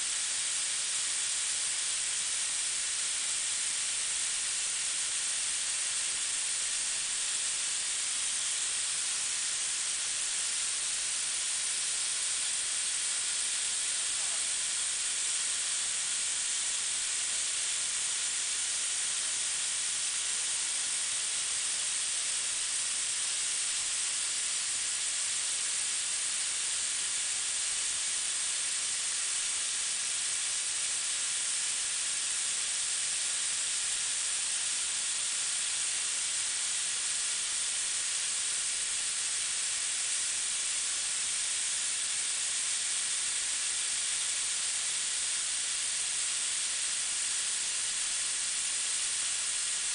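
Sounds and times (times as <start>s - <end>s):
grinding wheel hissing: 0.0s - 49.9s.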